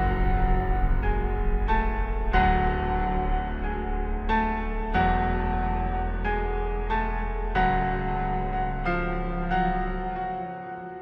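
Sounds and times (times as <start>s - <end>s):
slow sad keyboard chords: 0.0s - 11.0s.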